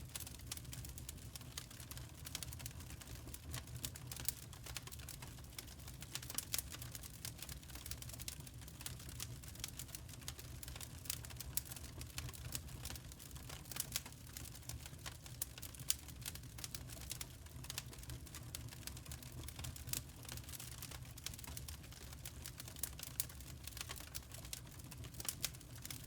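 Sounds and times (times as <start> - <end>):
firewood crackling: 0.0 - 26.0.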